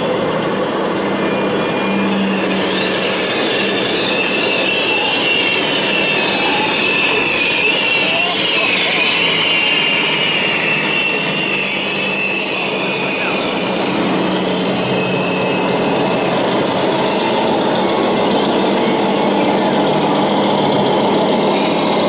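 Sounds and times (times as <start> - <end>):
high whine: 0.0 - 22.0
model trucks mechanical whir: 0.0 - 22.0.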